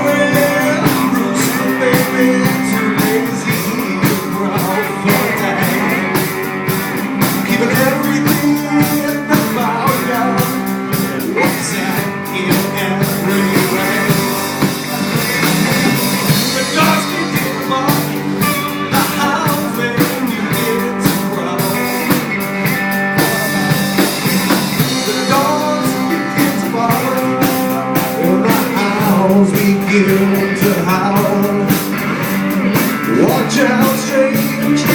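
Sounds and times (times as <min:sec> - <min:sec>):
bass: 0:00.0 - 0:34.9
blues-rock band playing: 0:00.0 - 0:34.9
guitar with bent notes: 0:00.0 - 0:34.9
steady drum beat: 0:00.0 - 0:34.9.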